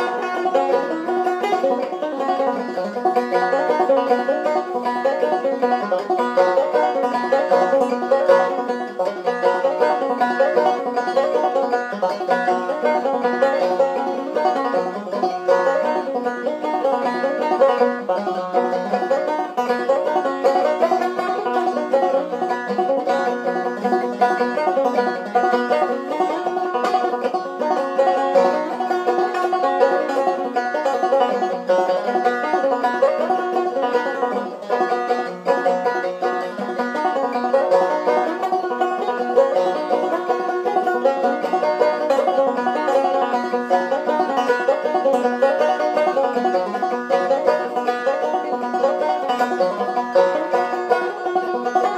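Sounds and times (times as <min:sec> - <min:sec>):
clawhammer banjo playing: 0:00.0 - 0:51.9.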